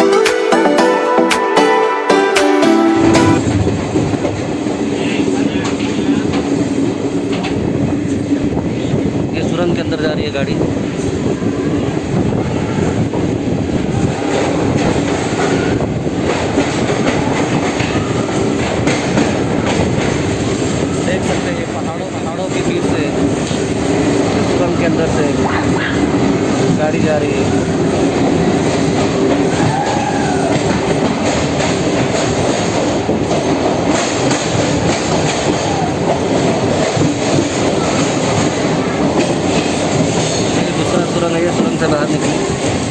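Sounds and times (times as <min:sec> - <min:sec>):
rails clicking: 0:03.3 - 0:11.4, 0:12.1 - 0:42.9
train wheels rumbling on track: 0:03.3 - 0:42.9.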